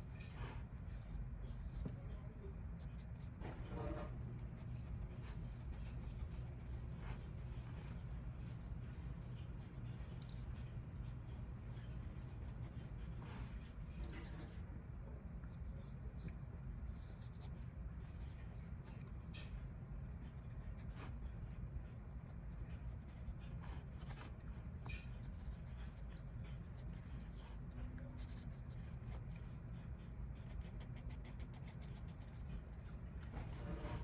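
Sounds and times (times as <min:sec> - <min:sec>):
pencil scratching on paper: 0:00.0 - 0:14.7, 0:15.5 - 0:34.0
low room hum: 0:00.0 - 0:34.0.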